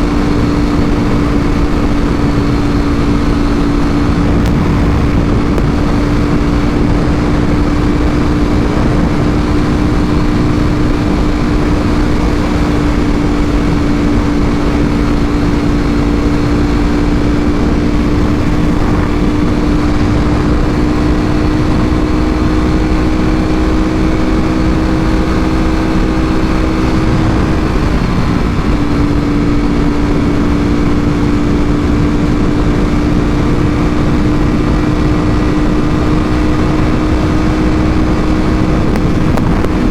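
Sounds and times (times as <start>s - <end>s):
motorcycle engine high-revving: 0.0s - 39.9s
wind noise: 0.0s - 39.9s.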